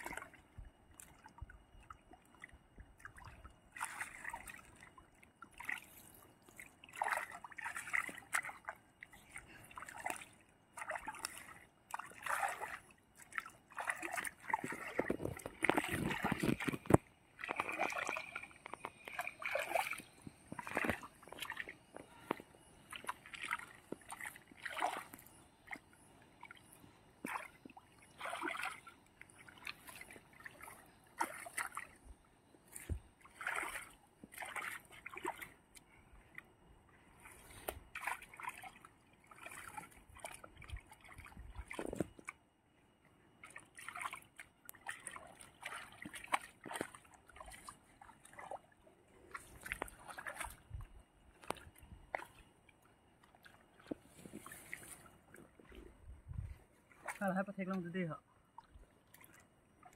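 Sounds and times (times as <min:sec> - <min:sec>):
pond water splashing: 0:00.0 - 0:42.5, 0:43.3 - 0:59.9.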